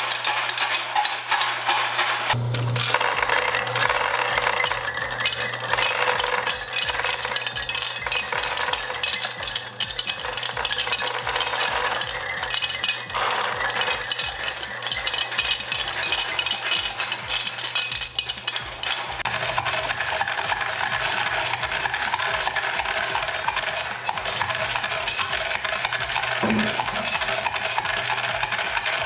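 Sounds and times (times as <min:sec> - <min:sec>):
marbles clattering and rattling: 0:00.0 - 0:29.0.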